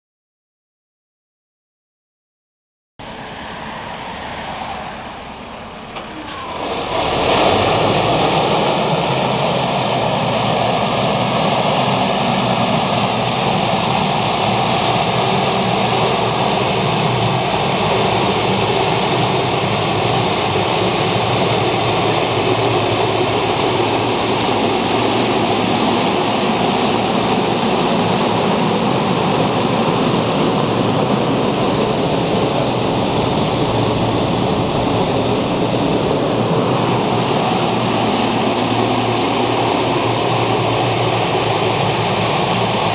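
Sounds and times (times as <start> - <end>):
diesel tractor engine running: 3.0 - 42.9
sprayer fan blowing: 3.0 - 42.9.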